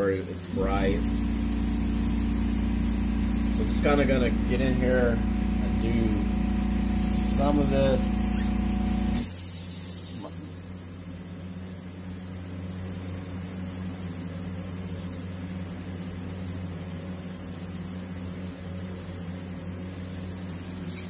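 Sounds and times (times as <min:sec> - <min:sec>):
airbrush air hiss: 0:00.0 - 0:04.3, 0:05.8 - 0:21.0
low mechanical hum: 0:00.0 - 0:21.0.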